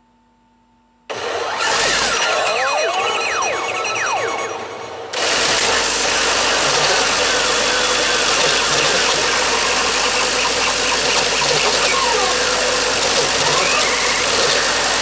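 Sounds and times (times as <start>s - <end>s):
pachinko parlour din: 1.4s - 15.0s
falling electronic chirps: 1.5s - 15.0s.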